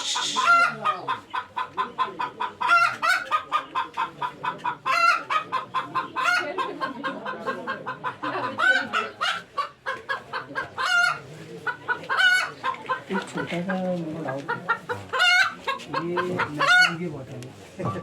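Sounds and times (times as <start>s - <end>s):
chickens clucking: 0.0s - 18.0s
drawn-out chicken cluck: 0.0s - 18.0s.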